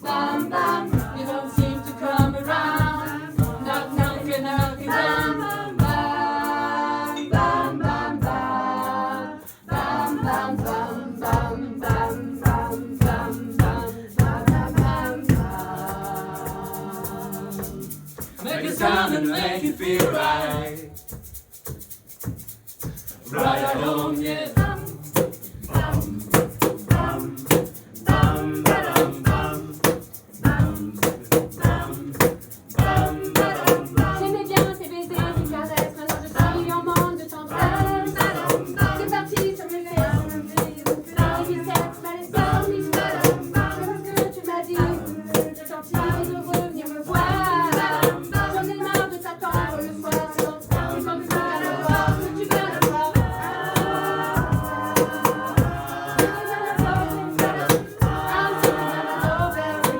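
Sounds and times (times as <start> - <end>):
higher voices singing: 0.0 - 21.1, 23.2 - 59.9
a cappella ensemble singing chords: 0.0 - 59.9
fast percussive beat: 0.0 - 59.9.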